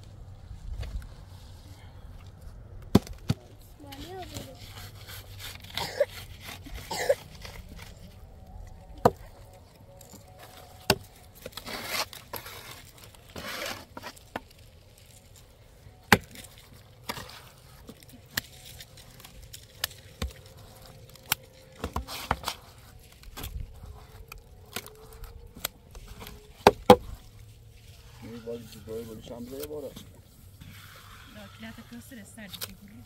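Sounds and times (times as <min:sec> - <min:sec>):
scraping rustles: 0:00.0 - 0:33.0.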